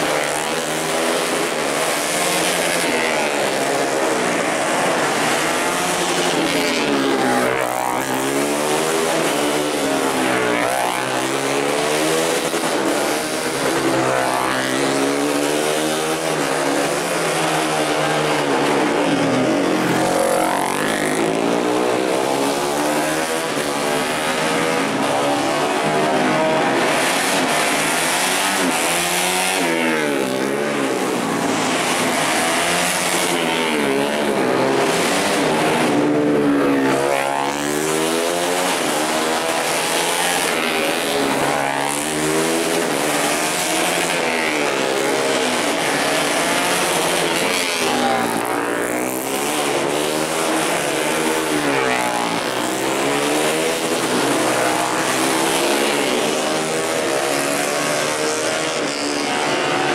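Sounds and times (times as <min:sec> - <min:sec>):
racing motorcycles passing: 0:00.0 - 0:59.9.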